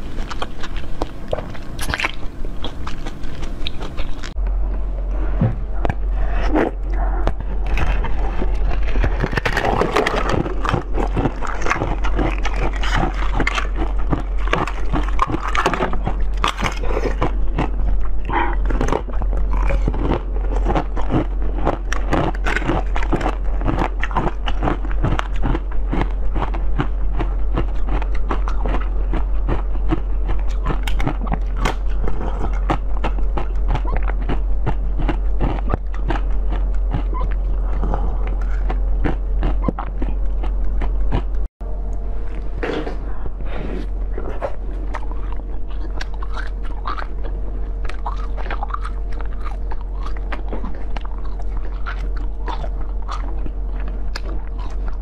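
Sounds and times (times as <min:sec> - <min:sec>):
person chewing jelly: 0:00.0 - 0:55.0
steady low hum: 0:00.0 - 0:55.0.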